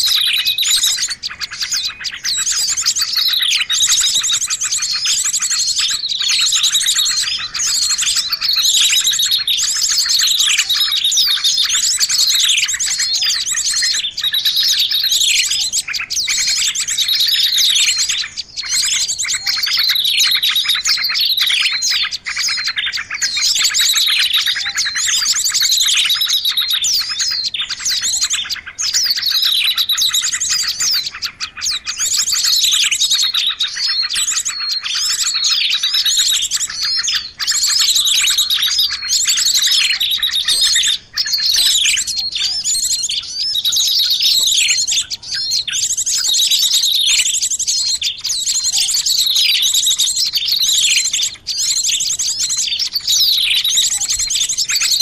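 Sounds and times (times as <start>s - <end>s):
songbirds calling: 0.0s - 55.0s.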